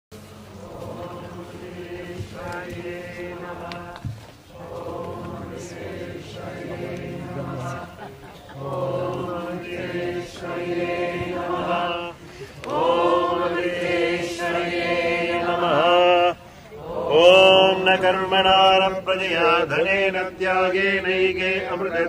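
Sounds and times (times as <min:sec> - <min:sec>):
voices chanting: 0:00.2 - 0:22.0.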